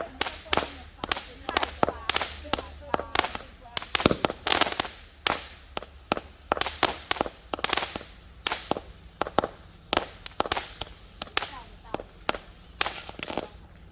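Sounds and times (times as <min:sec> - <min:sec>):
firework bangs: 0:00.0 - 0:13.9
firework hiss: 0:00.0 - 0:13.9.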